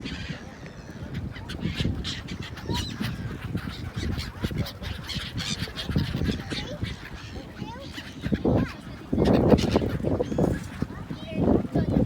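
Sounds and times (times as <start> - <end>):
flock of birds calling: 0.0 - 12.0.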